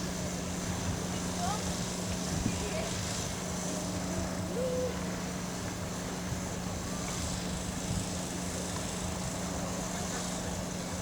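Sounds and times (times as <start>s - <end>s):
road and wind noise: 0.0s - 4.5s, 5.1s - 11.0s.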